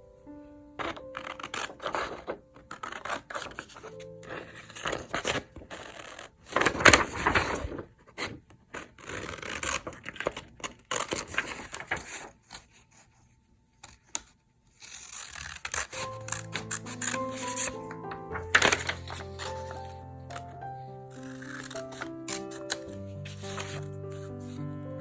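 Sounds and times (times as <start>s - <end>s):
paper scraping and rustling: 0.8s - 14.0s, 14.8s - 24.6s.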